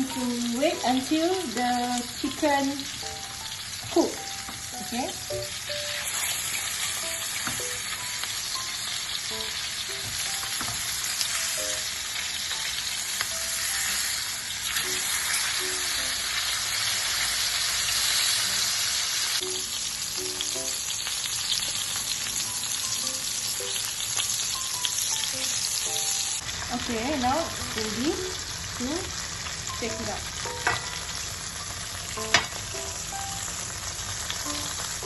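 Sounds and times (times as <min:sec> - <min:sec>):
chicken frying in a pan: 0:00.0 - 0:35.0.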